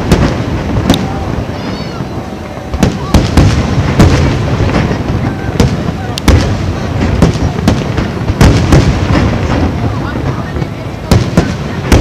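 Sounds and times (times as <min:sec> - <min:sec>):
continuous rumble: 0:00.0 - 0:12.0
fireworks bangs: 0:00.0 - 0:12.0.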